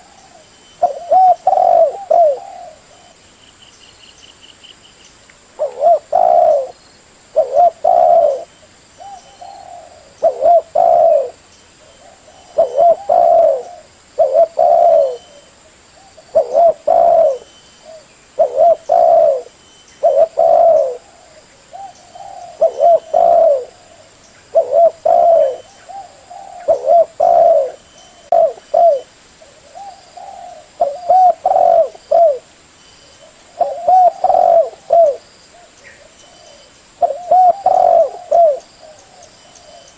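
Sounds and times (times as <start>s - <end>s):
dove cooing: 0.0s - 3.2s, 5.6s - 32.5s, 33.2s - 39.9s.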